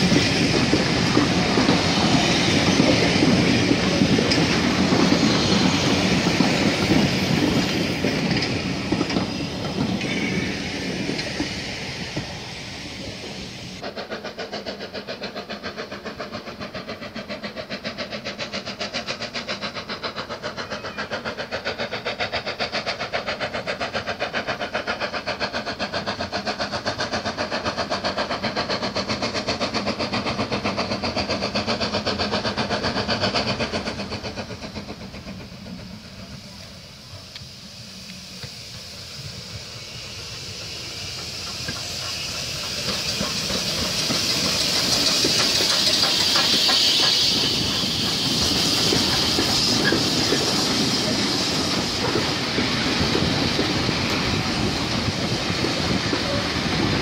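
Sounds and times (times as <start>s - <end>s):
steam hissing: 0.0s - 57.0s
steam locomotive exhaust beat: 0.0s - 57.0s
train rolling noise: 0.0s - 57.0s.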